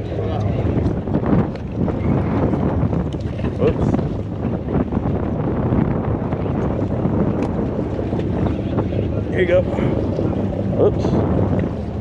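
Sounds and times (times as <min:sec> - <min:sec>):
boat noise: 0:00.0 - 0:12.0
sea: 0:00.0 - 0:12.0
wind buffeting microphone: 0:00.0 - 0:12.0.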